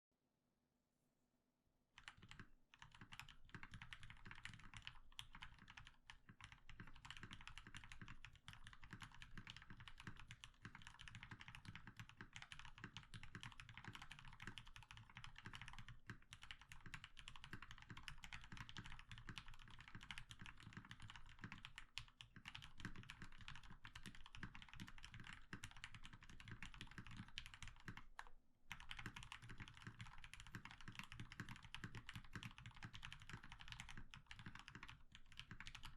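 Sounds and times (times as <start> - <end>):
fast typing on mechanical keyboard: 2.0 - 35.9.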